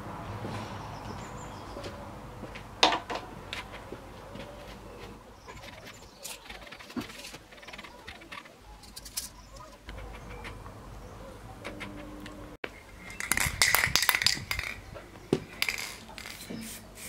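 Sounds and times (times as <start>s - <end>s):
birds calling: 0.6s - 2.6s, 3.2s - 16.9s.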